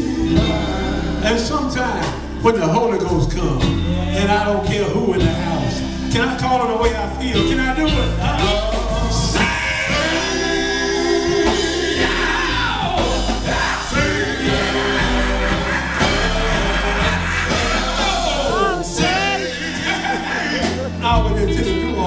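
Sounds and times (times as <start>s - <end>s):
drums: 0.0s - 22.0s
keyboard: 0.0s - 22.0s
man singing into microphone: 0.0s - 22.0s.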